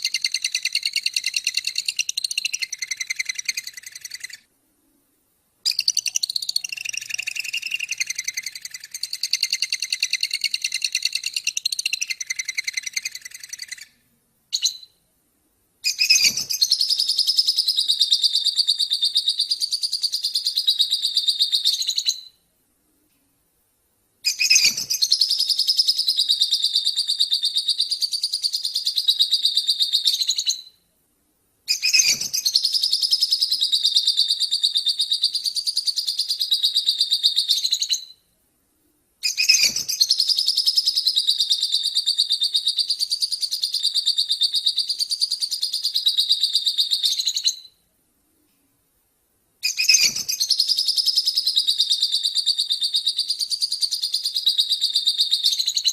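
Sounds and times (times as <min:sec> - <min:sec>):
songbird rapid chattering song: 0:00.0 - 0:04.5, 0:05.6 - 0:15.0, 0:15.8 - 0:22.4, 0:24.2 - 0:30.8, 0:31.7 - 0:38.2, 0:39.2 - 0:47.8, 0:49.6 - 0:55.9.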